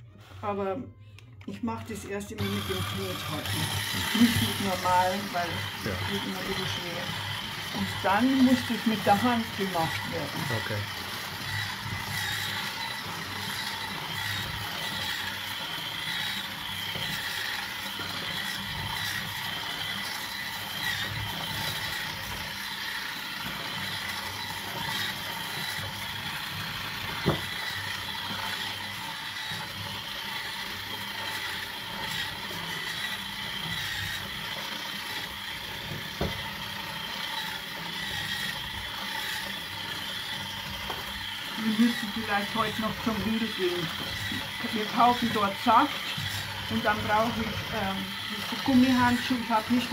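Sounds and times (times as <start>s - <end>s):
electric hand mixer whirring: 0.0s - 49.9s.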